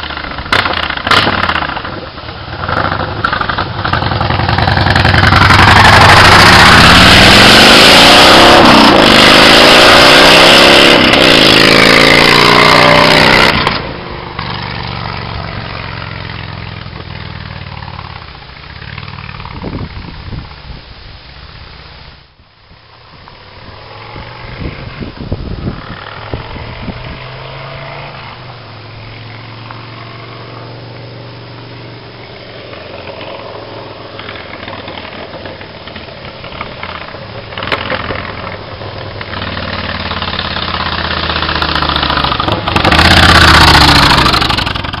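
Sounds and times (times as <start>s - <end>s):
motorcycle engine revving: 0.0s - 20.4s, 22.9s - 45.0s.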